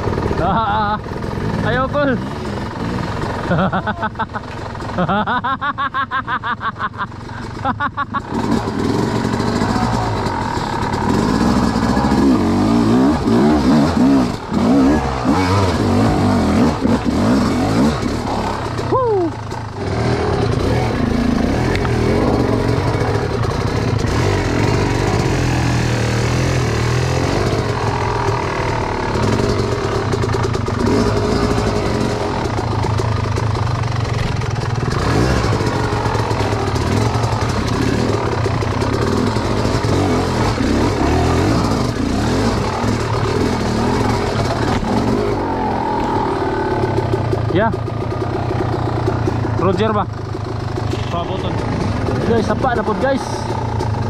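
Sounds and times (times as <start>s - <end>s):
dirt bike engine revving: 0.0s - 6.2s, 7.2s - 54.0s.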